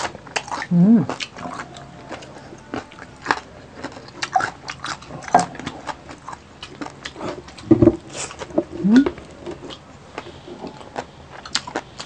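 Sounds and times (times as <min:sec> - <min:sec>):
chewing crispy food: 0:00.0 - 0:12.0.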